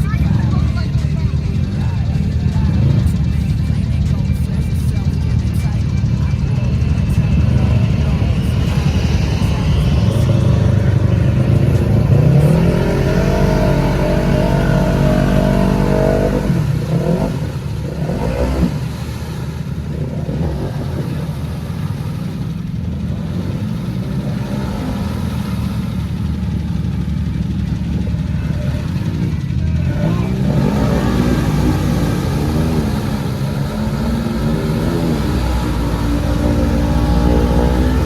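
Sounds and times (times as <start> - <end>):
quad bike engine revving: 0.0 - 38.0.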